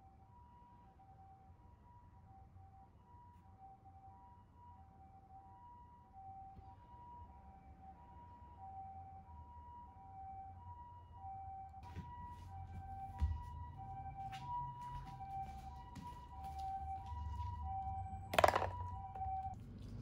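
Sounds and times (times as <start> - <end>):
faint two-tone ambulance siren: 0.0 - 20.0.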